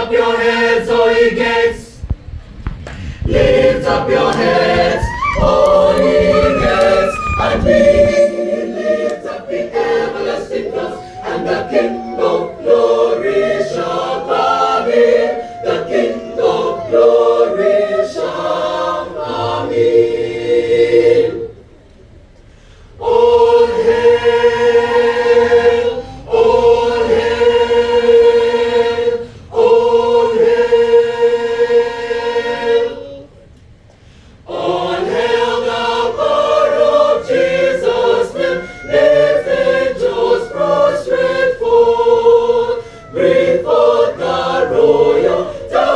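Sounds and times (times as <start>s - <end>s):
choir singing sustained chords: 0.0s - 2.1s, 3.2s - 21.7s, 23.0s - 33.3s, 34.4s - 45.9s.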